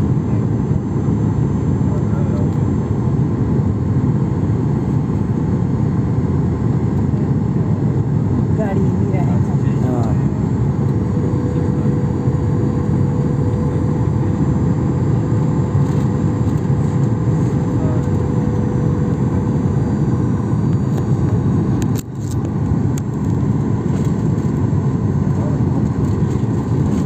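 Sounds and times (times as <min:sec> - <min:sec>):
airliner cabin roar: 0:00.0 - 0:27.0.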